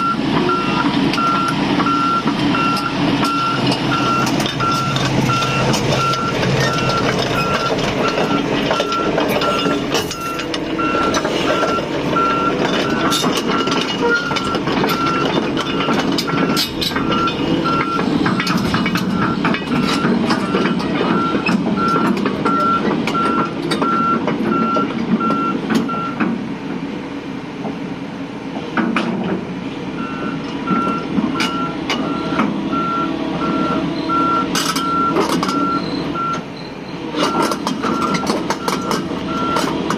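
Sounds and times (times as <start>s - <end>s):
travel alarm beeping: 0.0s - 26.2s, 30.0s - 39.7s
diesel excavator engine running: 0.0s - 39.9s.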